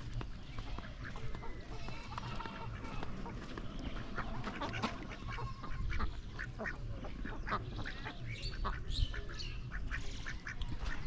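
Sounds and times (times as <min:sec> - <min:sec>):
ducks quacking: 0:00.4 - 0:11.0.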